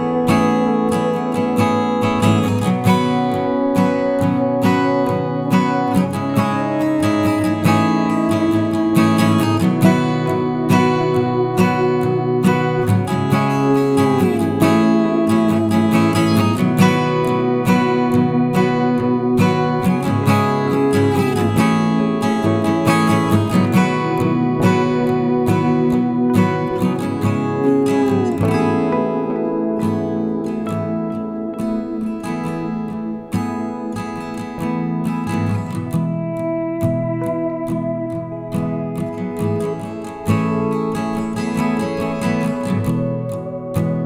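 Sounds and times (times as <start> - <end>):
acoustic guitar music: 0.0 - 44.0.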